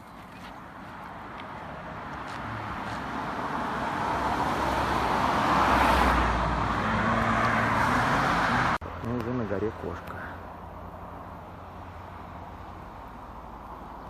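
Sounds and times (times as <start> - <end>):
car approaching on road: 0.0 - 14.0.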